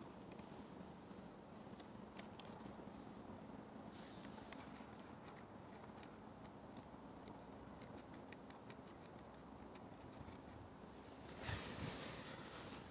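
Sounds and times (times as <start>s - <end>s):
quiet hiss: 0.0s - 12.9s.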